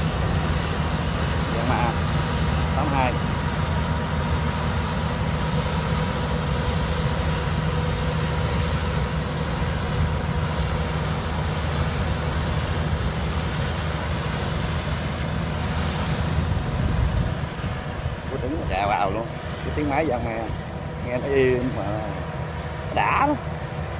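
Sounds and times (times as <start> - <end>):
diesel engine humming: 0.0 - 23.9.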